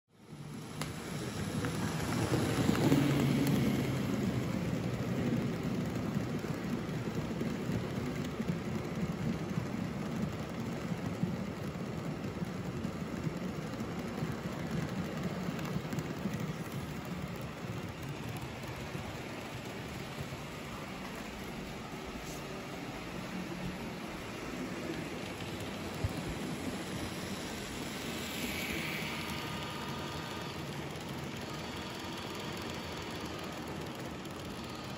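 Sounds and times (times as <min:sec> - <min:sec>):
model train wheels clattering: 0:00.4 - 0:34.9.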